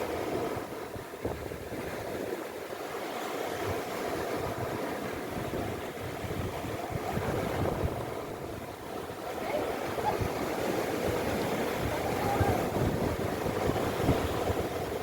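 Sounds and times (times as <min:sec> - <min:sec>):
wind on microphone: 0:00.0 - 0:02.4, 0:03.4 - 0:15.0
sea waves washing: 0:00.0 - 0:15.0.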